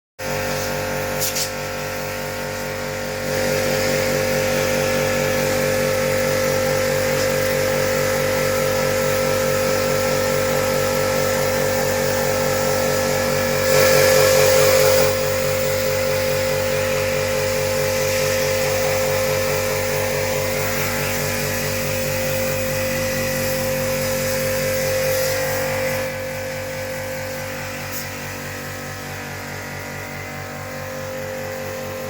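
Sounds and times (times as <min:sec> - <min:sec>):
pressure washer pump humming: 0:00.2 - 0:32.0.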